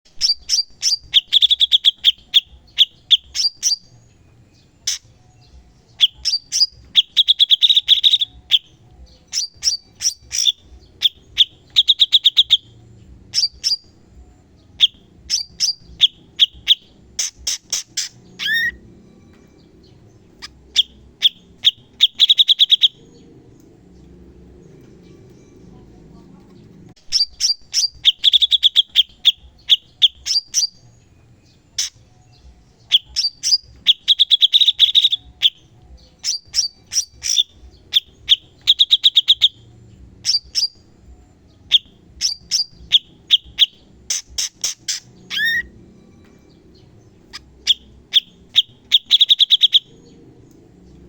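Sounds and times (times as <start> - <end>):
songbird chirping and trilling: 0.1 - 51.0.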